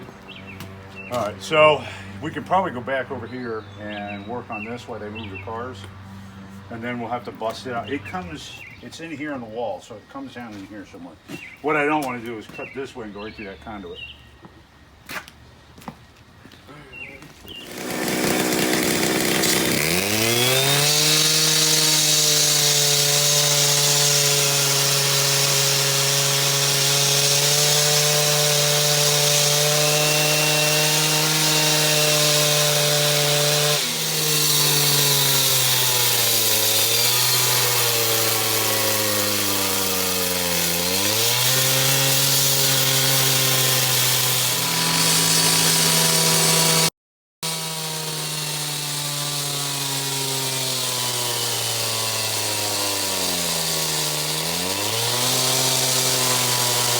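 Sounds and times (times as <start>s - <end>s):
power saw cutting concrete: 0.0s - 9.5s, 17.5s - 56.9s.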